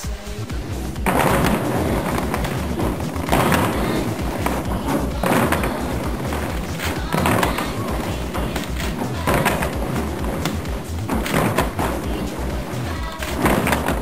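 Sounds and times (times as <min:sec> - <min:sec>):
feet stomping: 0:00.0 - 0:14.0
plastic stools scraping on wooden floor: 0:00.6 - 0:14.0.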